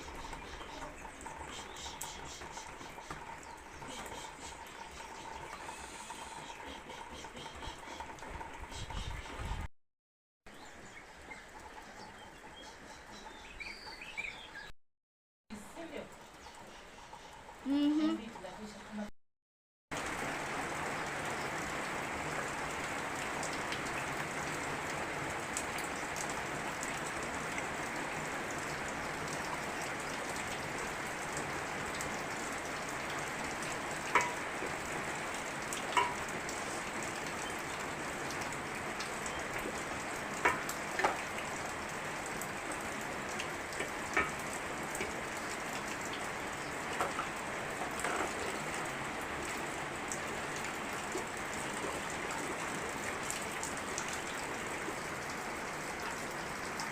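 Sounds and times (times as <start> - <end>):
steady rain hissing: 0.0 - 9.4, 20.0 - 56.9.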